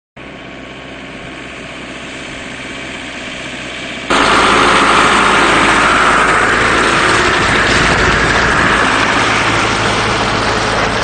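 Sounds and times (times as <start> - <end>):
vehicle engine running: 0.2 - 11.0.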